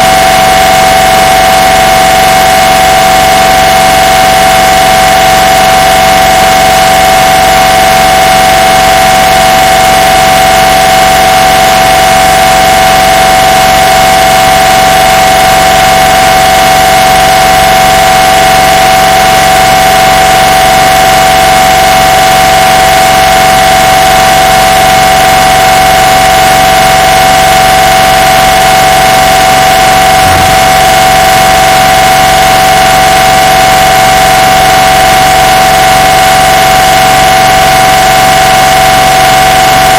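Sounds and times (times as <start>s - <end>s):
mri scanner noise: 0.0s - 39.9s.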